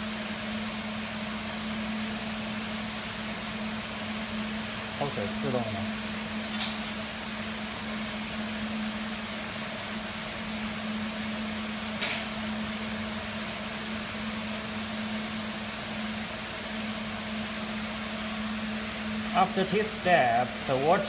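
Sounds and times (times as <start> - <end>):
machine hum with fan hiss: 0.0 - 21.0.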